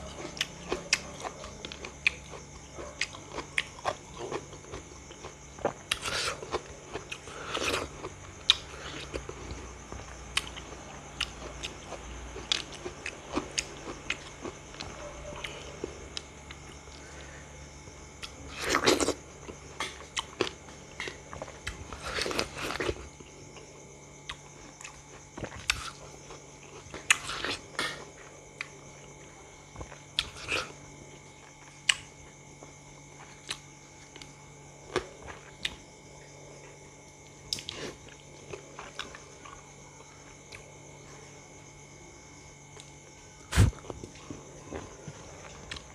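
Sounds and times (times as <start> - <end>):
crunchy fruit chewing: 0.0 - 45.9.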